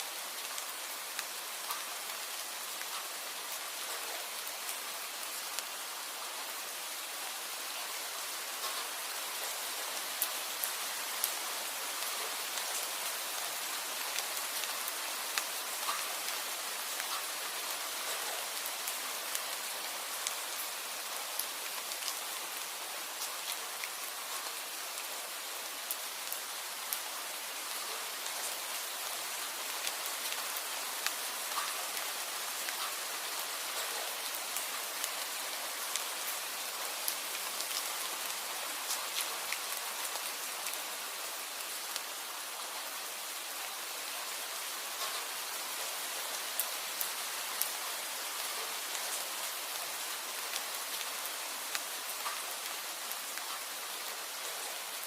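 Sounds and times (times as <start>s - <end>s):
steady rain hiss: 0.0s - 55.0s
raindrops ticking on a surface: 0.1s - 55.0s.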